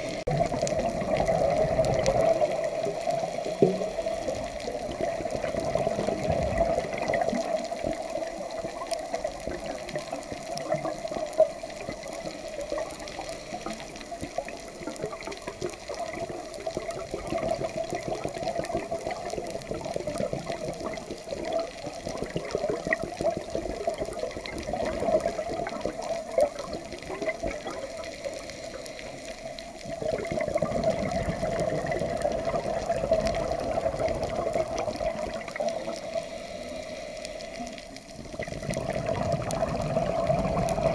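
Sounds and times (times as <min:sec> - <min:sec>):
underwater rushing and bubbling: 0:00.0 - 0:40.9.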